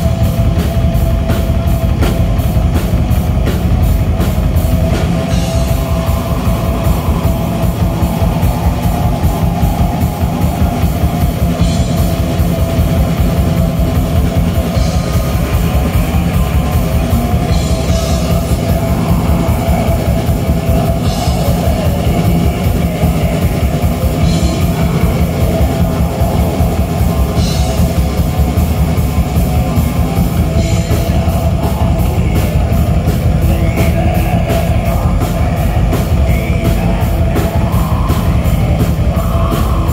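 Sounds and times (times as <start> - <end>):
distorted electric guitars: 0.0 - 39.9
fast drumming on drum kit: 0.0 - 39.9.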